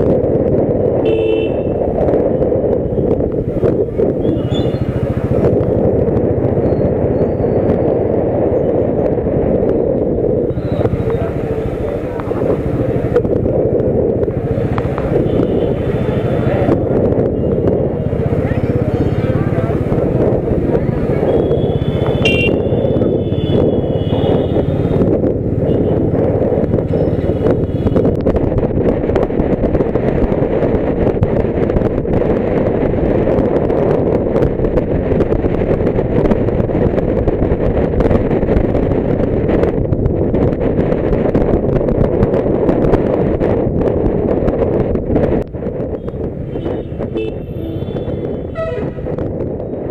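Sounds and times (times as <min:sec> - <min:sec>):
wind buffeting microphone: 0:00.0 - 0:49.9
motorcycle engine running: 0:00.2 - 0:42.6.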